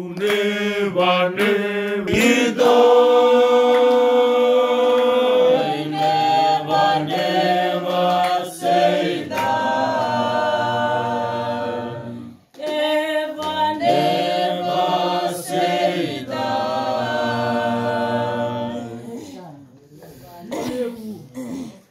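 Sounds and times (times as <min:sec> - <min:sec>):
group singing in harmony: 0:00.0 - 0:19.5.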